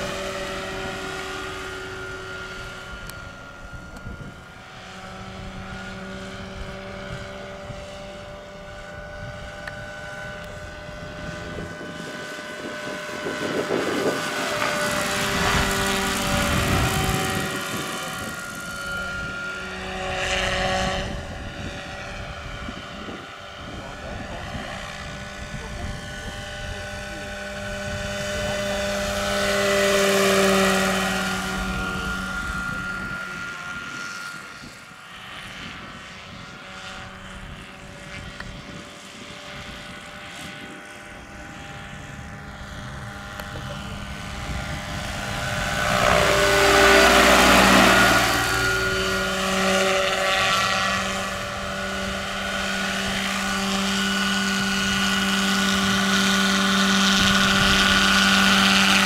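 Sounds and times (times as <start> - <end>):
model helicopter rotor hum and whine: 0.0 - 59.0.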